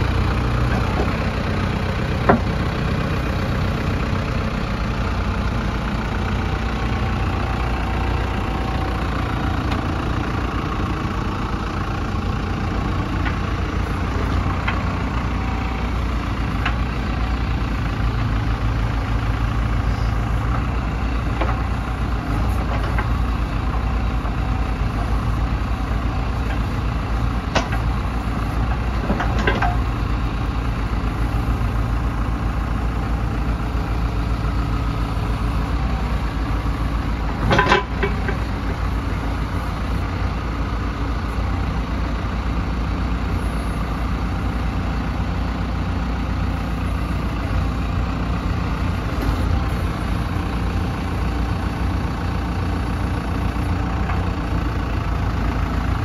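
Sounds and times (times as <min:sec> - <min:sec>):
diesel engine idling: 0:00.0 - 0:56.0
engine clatter: 0:00.0 - 0:56.0.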